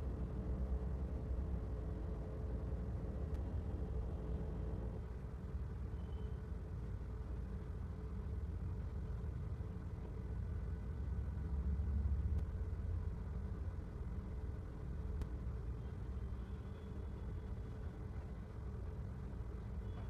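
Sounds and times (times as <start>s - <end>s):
faint hum: 0.0s - 20.0s
low background rumble: 0.0s - 20.0s.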